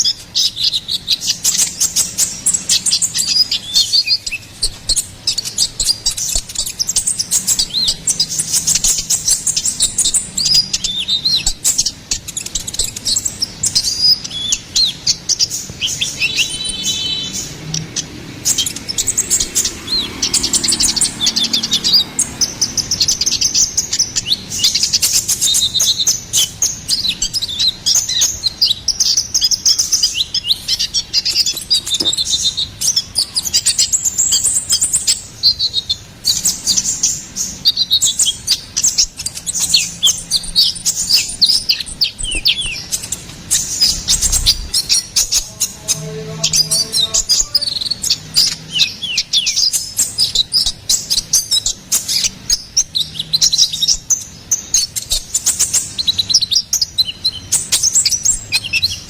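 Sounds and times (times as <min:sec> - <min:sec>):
sunbird chirping and twittering: 0:00.0 - 0:59.0.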